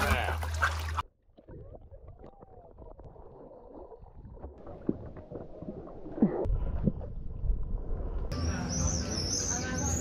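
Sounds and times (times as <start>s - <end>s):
water sloshing against camera: 0.0s - 8.3s.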